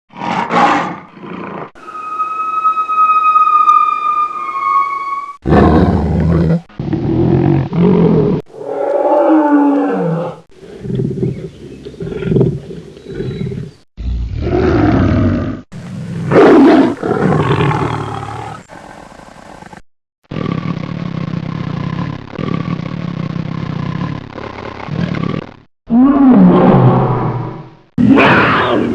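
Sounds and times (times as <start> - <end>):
tiger roaring and growling: 0.1 - 1.7, 5.4 - 28.9.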